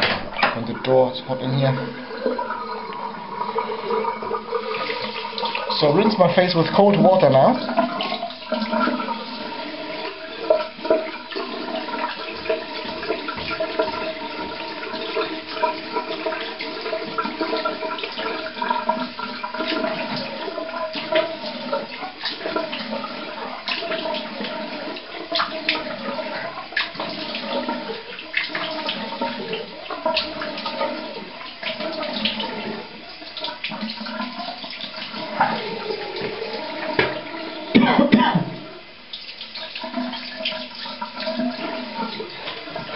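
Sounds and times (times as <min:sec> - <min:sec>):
tap water running into sink: 0:00.0 - 0:42.9.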